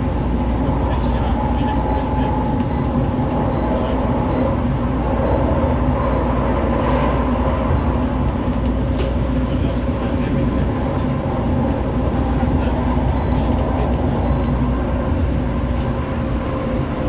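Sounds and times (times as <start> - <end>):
traction equipment hum: 0.0 - 17.0
tram wheels rumbling on rails: 0.0 - 17.0.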